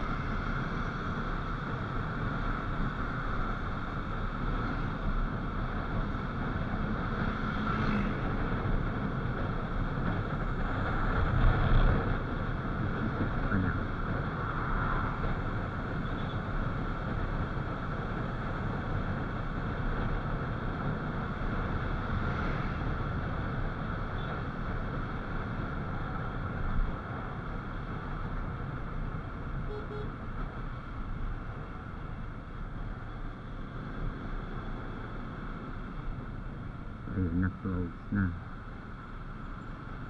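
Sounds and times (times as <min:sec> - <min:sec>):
wind rumble: 0:00.0 - 0:40.0.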